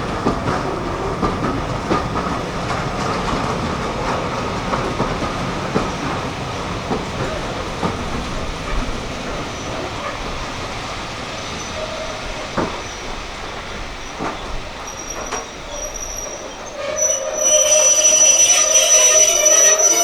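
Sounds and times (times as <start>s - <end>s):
train rumble: 0.0s - 20.0s
train wheels clicking on rails: 0.0s - 20.0s.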